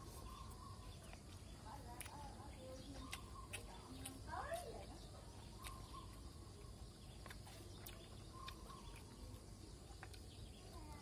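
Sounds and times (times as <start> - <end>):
faint outdoor hum: 0.0 - 11.0
soft ticks and chirps: 0.0 - 11.0.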